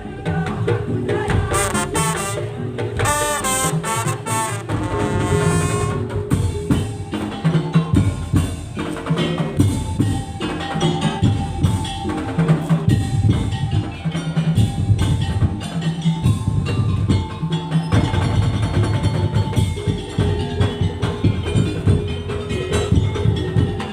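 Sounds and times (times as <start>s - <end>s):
drums and percussion rhythm: 0.0s - 23.9s
wavering melodic line: 3.7s - 23.9s.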